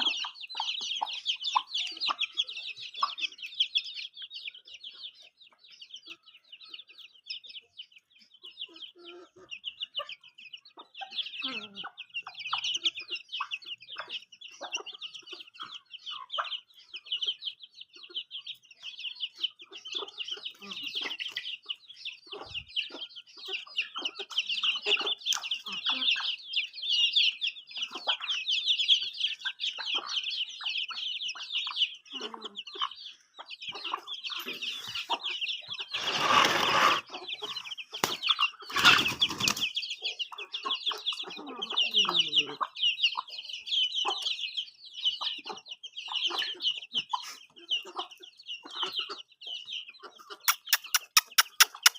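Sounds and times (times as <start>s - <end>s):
baby chicks peeping: 0.0s - 51.9s
hen clucking: 0.0s - 51.9s.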